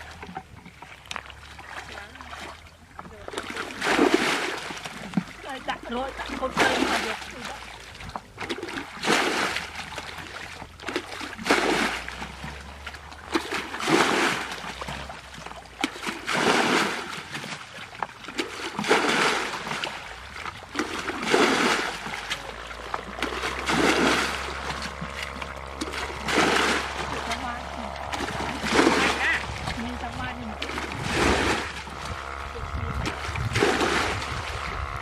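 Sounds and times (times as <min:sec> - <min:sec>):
water splashing in surges: 0:00.0 - 0:35.0.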